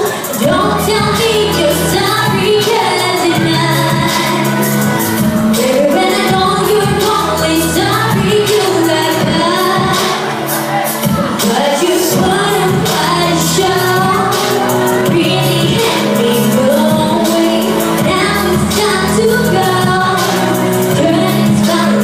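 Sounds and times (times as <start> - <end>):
instrumental accompaniment: 0.0 - 22.0
woman singing into microphone: 0.0 - 22.0.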